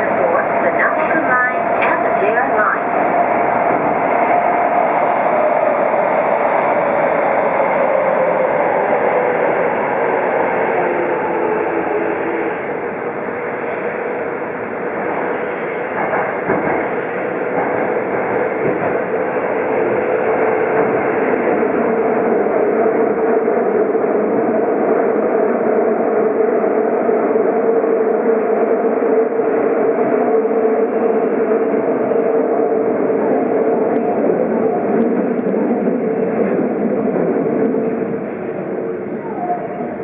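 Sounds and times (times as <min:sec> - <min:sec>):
subway train rumbling in tunnel: 0:00.0 - 0:40.0.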